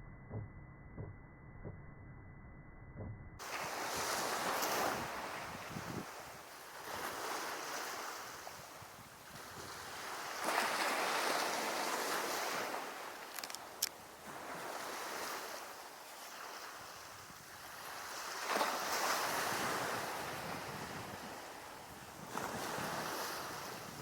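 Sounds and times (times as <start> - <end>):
sea waves washing onto shore: 3.4 - 24.0.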